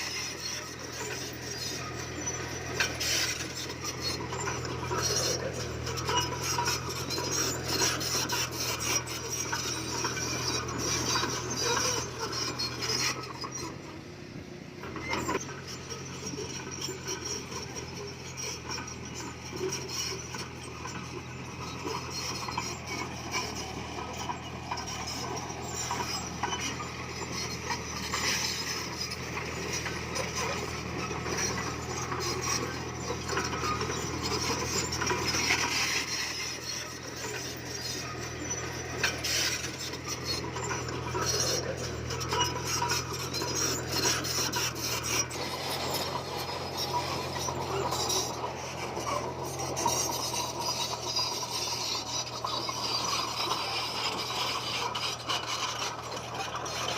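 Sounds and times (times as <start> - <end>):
diesel engine running: 0.0 - 56.9
metallic clanking of tracks: 0.0 - 56.9.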